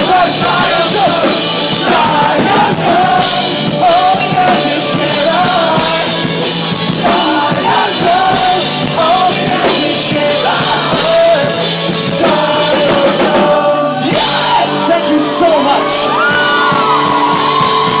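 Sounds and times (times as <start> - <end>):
pop-punk band playing live: 0.0 - 18.0
sung and shouted vocals: 0.0 - 18.0.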